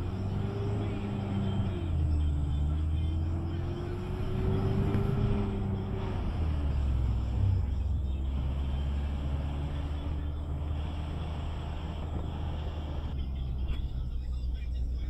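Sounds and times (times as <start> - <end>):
minibus engine rumble: 0.0 - 15.0
road noise: 0.0 - 15.0.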